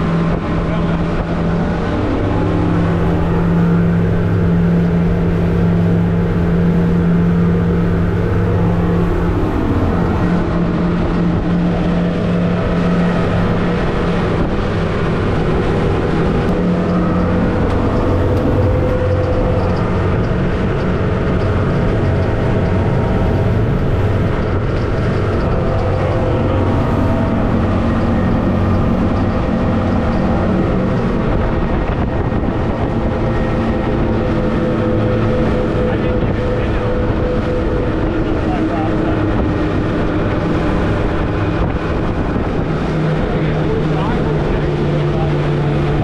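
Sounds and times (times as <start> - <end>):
outboard motors running hard: 0.0 - 46.0.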